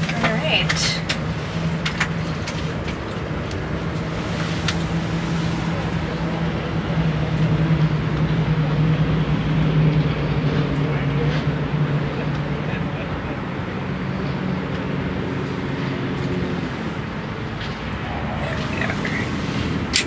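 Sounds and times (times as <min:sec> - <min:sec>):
engine hum: 0:00.0 - 0:20.0.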